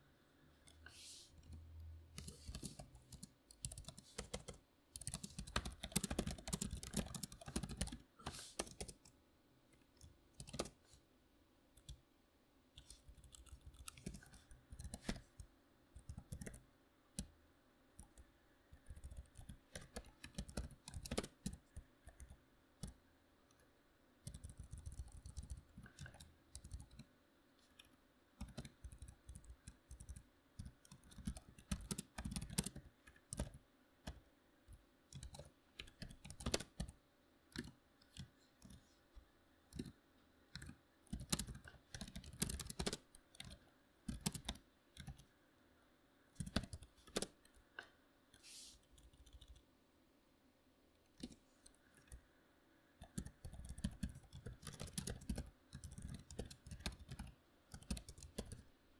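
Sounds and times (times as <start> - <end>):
keyboard typing: 1.4 - 11.0, 12.8 - 17.3, 18.0 - 23.6, 24.2 - 45.3, 46.4 - 47.6, 48.3 - 49.7, 53.0 - 58.6.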